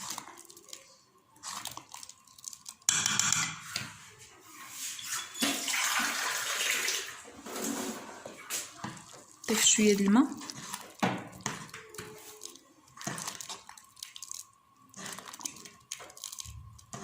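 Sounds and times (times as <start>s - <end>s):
liquid pouring: 0.0s - 2.9s, 5.4s - 17.0s.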